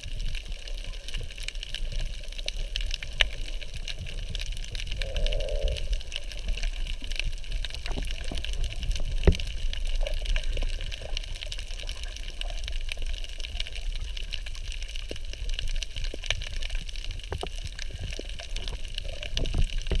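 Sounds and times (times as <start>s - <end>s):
underwater clicks and crackles: 0.0s - 20.0s
underwater rumble: 0.0s - 20.0s.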